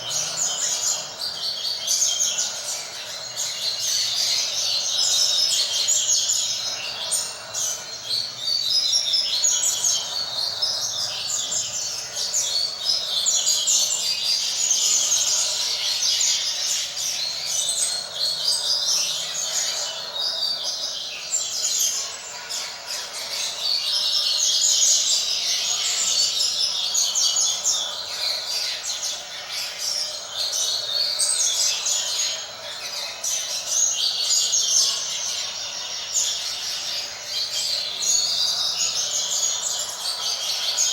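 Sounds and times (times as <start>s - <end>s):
bird high twittering song: 0.0s - 40.9s.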